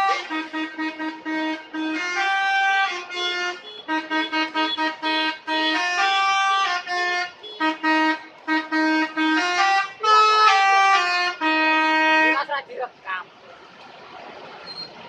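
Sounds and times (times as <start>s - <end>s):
multi-note bus air horns melody: 0.0s - 12.5s.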